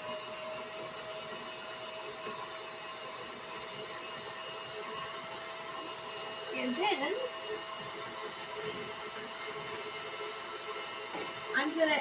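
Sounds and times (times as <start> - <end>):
electric mixer whirring: 0.0 - 12.0.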